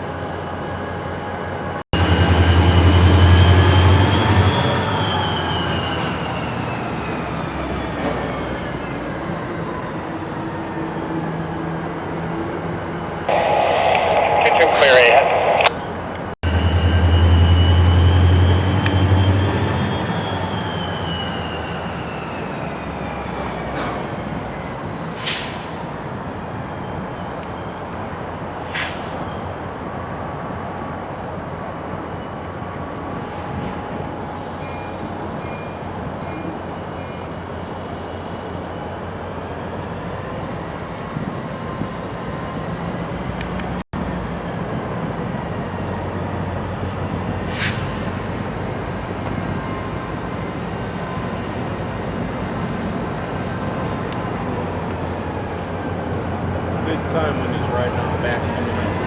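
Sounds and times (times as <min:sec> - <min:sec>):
diesel locomotive rumbling: 0:00.0 - 0:59.0.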